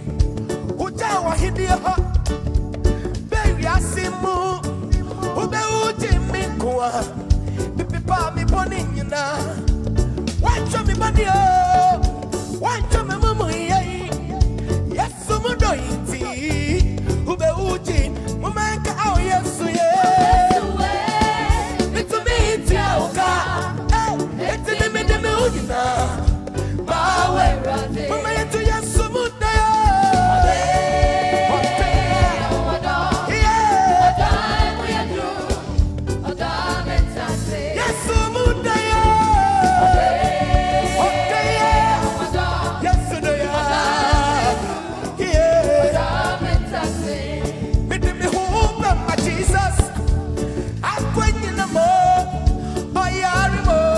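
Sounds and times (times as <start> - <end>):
gospel band playing steady beat: 0.0 - 53.9.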